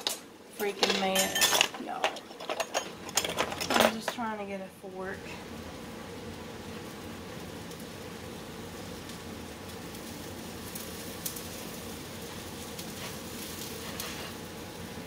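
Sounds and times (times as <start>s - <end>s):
kitchen background hum: 0.0s - 15.0s.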